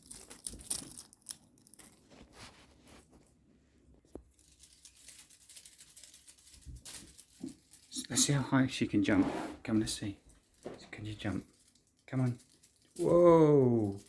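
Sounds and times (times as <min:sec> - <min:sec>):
crinkly cat toy rustling: 0:00.0 - 0:14.0.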